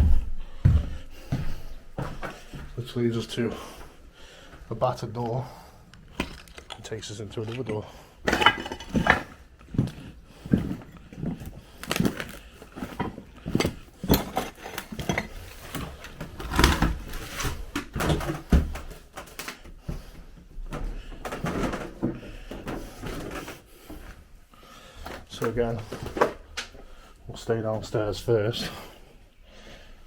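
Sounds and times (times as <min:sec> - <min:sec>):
footsteps on debris-strewn floor: 0:00.0 - 0:26.9.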